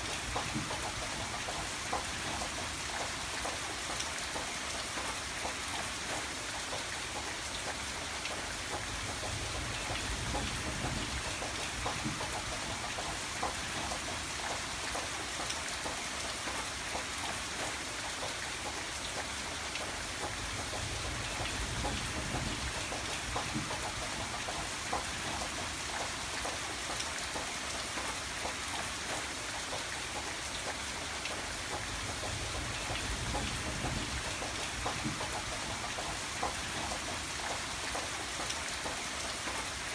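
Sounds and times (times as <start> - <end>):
raindrops ticking on hard surface: 0.0 - 39.9
steady rainfall hiss: 0.0 - 39.9.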